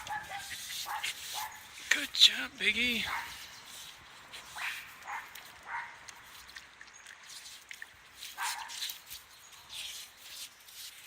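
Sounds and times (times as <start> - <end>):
dog paws scratching wet dirt: 0.0 - 11.0.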